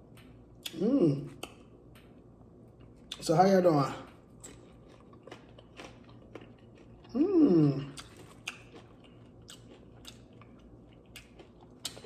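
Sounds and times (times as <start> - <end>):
chewing crunchy fried food: 0.0 - 12.0.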